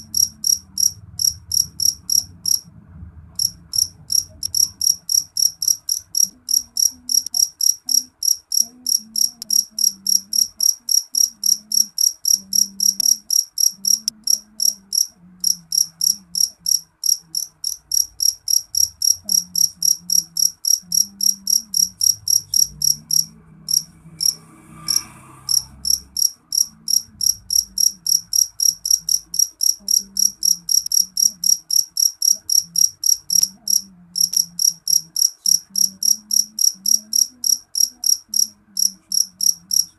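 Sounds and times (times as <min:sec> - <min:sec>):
cricket chirping: 0:00.0 - 0:02.6, 0:03.4 - 0:39.9.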